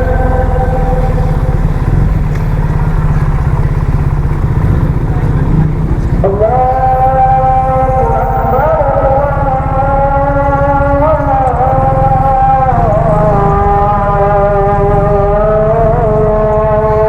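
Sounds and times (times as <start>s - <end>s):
long wailing tone: 0.0s - 4.4s, 6.2s - 17.0s
motorcycle engine running: 0.0s - 17.0s
wind rumble: 0.0s - 17.0s.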